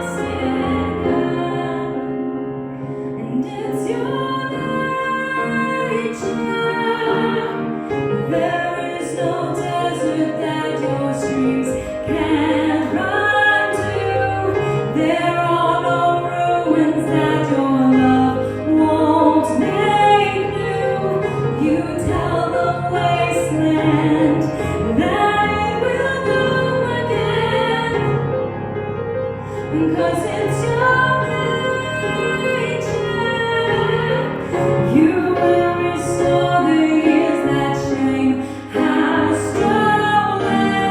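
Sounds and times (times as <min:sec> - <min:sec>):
woman singing worship song: 0:00.0 - 0:02.4, 0:03.2 - 0:28.2, 0:29.5 - 0:40.9.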